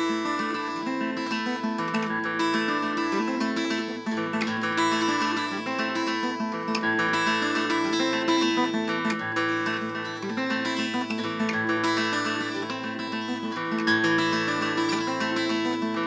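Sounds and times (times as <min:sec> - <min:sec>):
acoustic guitar playing chords: 0:00.0 - 0:16.0.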